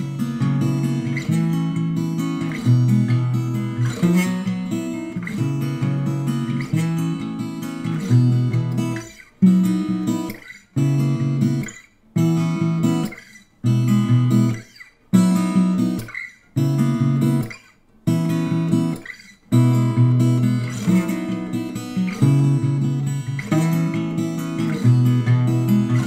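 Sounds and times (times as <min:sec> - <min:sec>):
strummed acoustic guitar chords: 0:00.0 - 0:26.0.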